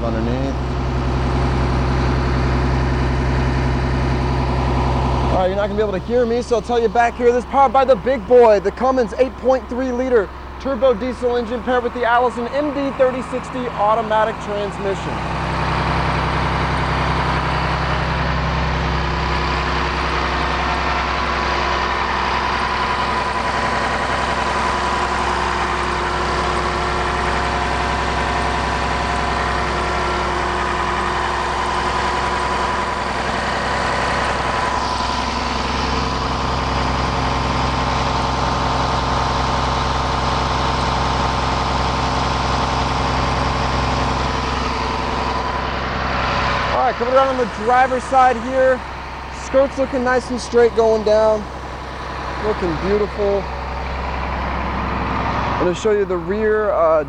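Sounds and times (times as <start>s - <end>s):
diesel engine idling loudly: 0.0s - 57.0s.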